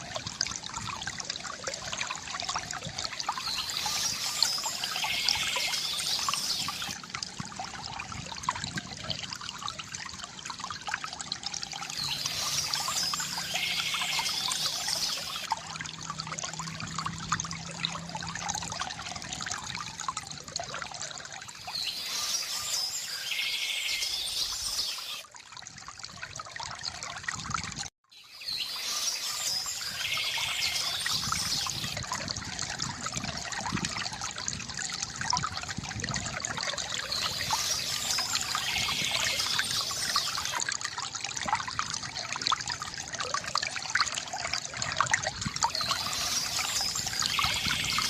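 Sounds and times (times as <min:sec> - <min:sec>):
water trickling from fountain: 0:00.0 - 0:48.0.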